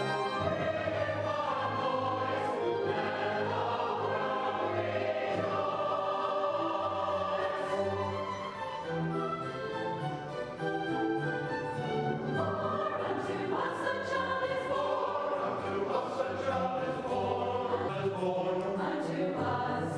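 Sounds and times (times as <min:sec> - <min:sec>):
church choir singing: 0:00.0 - 0:19.9.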